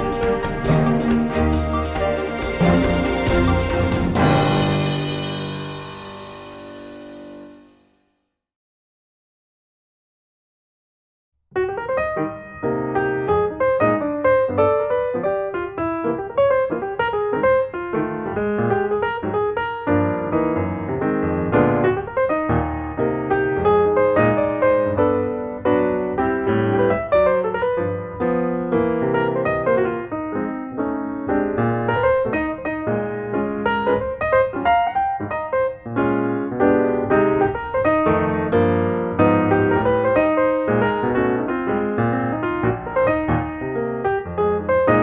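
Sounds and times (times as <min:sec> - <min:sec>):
piano music: 0:00.0 - 0:08.0, 0:11.6 - 0:45.0.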